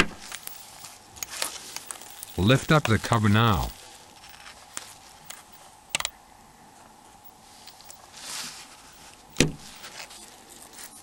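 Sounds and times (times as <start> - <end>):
short rustle: 0.2 - 5.8, 7.1 - 11.0.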